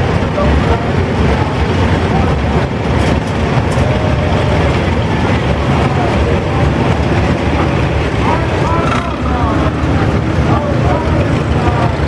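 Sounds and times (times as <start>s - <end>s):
faint voices: 0.0s - 12.0s
tractor engines running: 0.0s - 12.0s.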